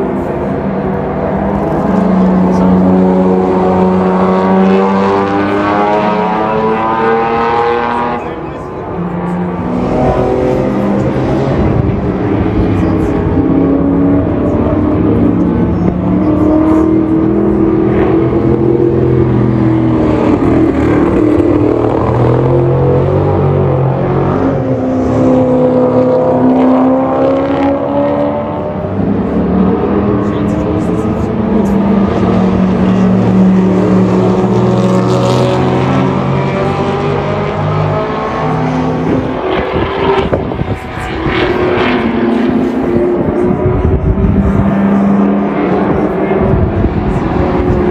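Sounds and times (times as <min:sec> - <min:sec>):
racing car engines passing: 0:00.0 - 0:47.9.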